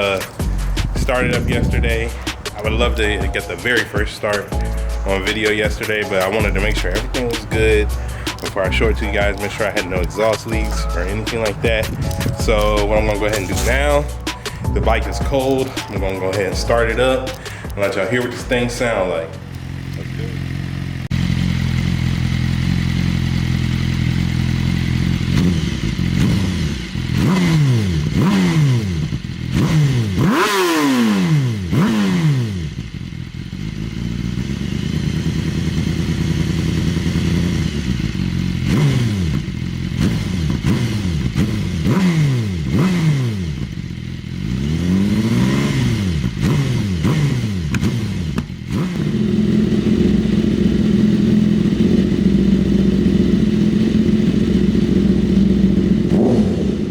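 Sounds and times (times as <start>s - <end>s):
motorcycle engine idling: 0.0s - 30.2s, 32.4s - 56.9s.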